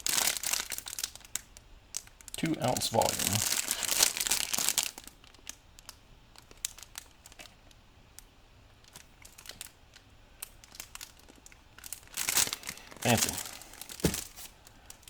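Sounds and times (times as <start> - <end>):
packaging crinkling and rustling: 0.0 - 7.8, 8.8 - 15.0.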